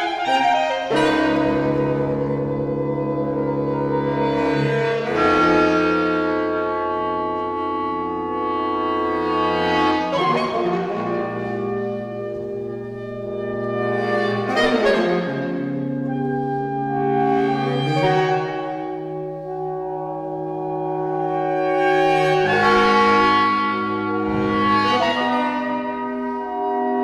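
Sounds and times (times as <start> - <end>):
saxophone ensemble chords: 0.0 - 27.0.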